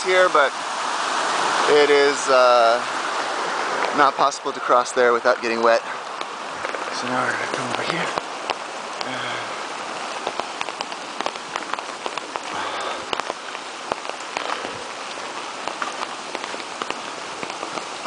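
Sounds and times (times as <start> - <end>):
rain hiss: 0.0 - 18.0
raindrops tapping on an umbrella: 0.0 - 18.0
rushing creek water: 0.0 - 18.0.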